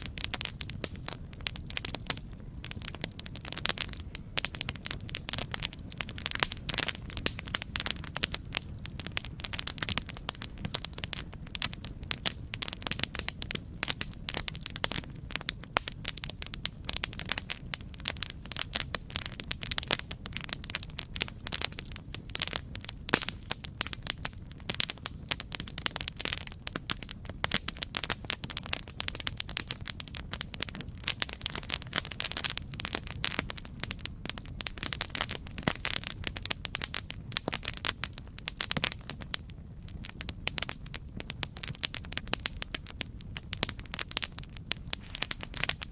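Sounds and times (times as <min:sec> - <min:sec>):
campfire crackling: 0:00.0 - 0:45.9
low rumble of flame: 0:00.0 - 0:45.9.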